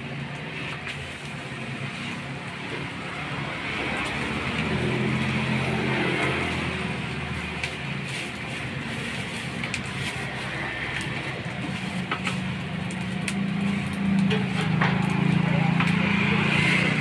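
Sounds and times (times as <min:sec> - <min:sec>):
food sizzling in a wok: 0:00.0 - 0:17.0
traffic hum: 0:00.0 - 0:17.0.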